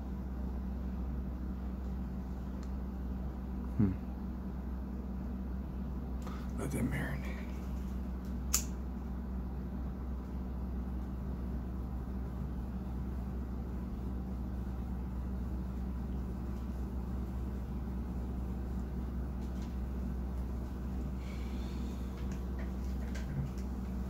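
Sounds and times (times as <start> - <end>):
low background hum and rumble: 0.0 - 24.0.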